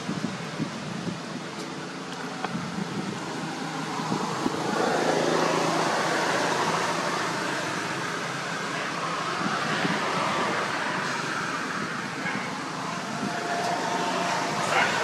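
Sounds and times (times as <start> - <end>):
motor traffic: 0.0 - 15.0
vehicle approaching: 0.0 - 15.0.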